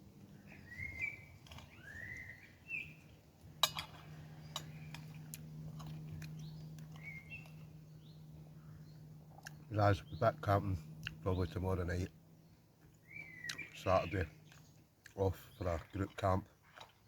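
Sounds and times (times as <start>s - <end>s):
faint low hum: 0.0s - 17.0s
songbird chirps: 0.0s - 17.0s.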